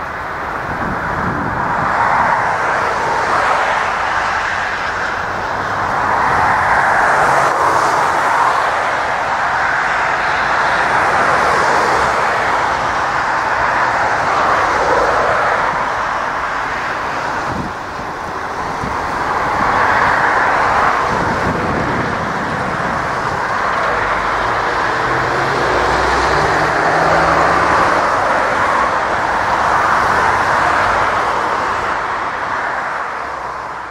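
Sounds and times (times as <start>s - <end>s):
jet engines roaring: 0.0s - 33.9s.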